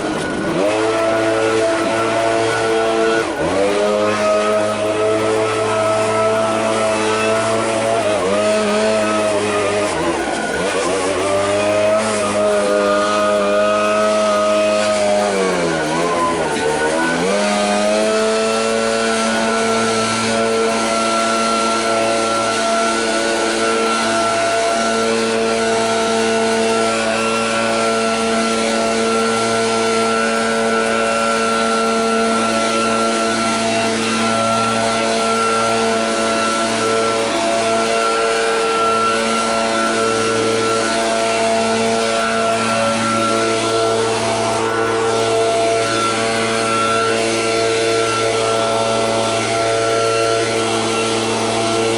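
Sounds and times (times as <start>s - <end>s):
background music: 0.0s - 51.9s
small gas engine running: 0.0s - 51.9s.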